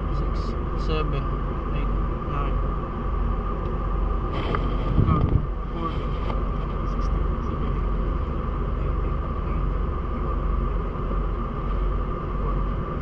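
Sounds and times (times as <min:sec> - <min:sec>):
constant hum: 0:00.0 - 0:13.0
machinery rumbling: 0:00.0 - 0:13.0.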